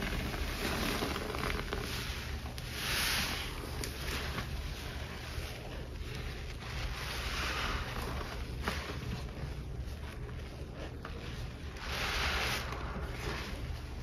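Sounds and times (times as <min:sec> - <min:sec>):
sponge squelching in suds: 0:00.0 - 0:14.0.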